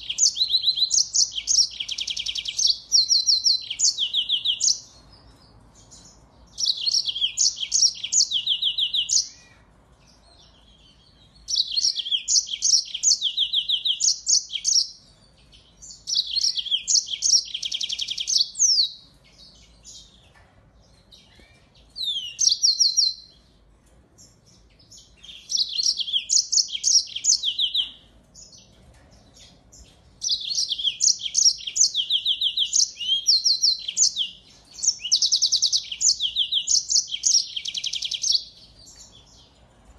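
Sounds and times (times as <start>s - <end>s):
finch singing trills: 0.0s - 23.5s, 24.2s - 39.5s.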